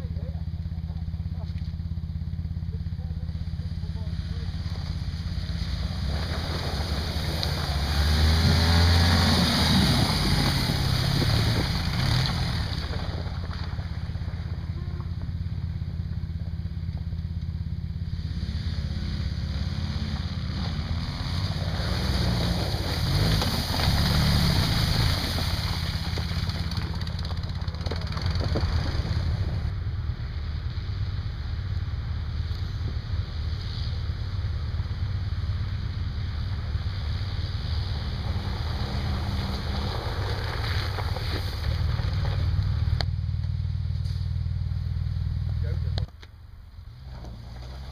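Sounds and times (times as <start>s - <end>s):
buggy engines revving: 0.0s - 47.9s
steady low rumble: 0.0s - 47.9s.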